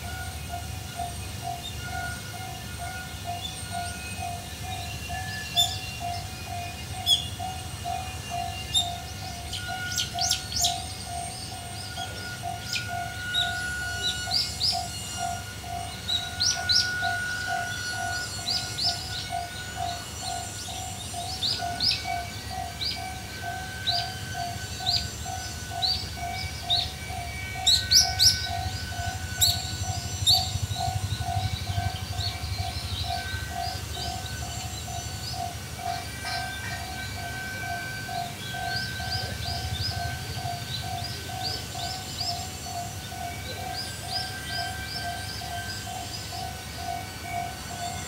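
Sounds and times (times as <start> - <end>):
level-crossing warning bell ringing: 0.0 - 48.0
birds chirping: 1.0 - 48.0.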